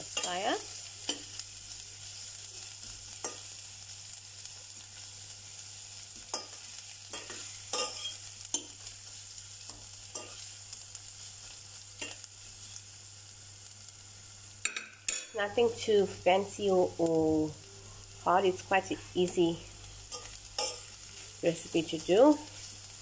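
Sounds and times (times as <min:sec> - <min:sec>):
vegetables sizzling in butter: 0:00.0 - 0:23.0.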